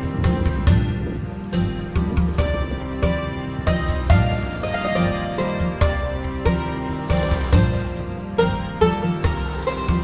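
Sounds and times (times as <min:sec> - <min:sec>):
plucked string music with bass: 0:00.0 - 0:10.0.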